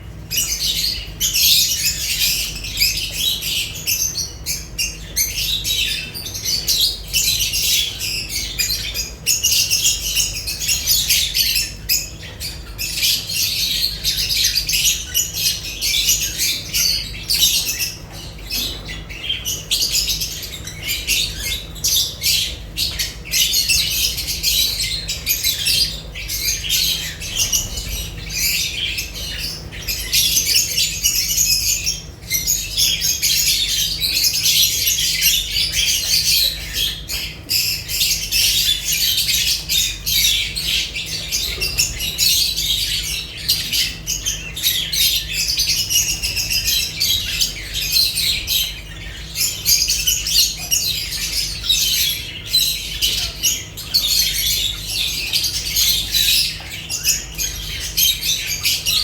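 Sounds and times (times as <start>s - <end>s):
lovebirds chattering: 0.0s - 59.0s.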